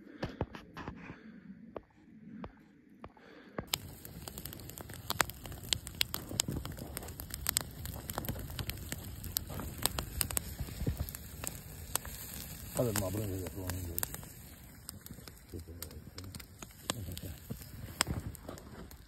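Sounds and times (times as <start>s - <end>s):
campfire crackling and popping: 3.6s - 19.0s.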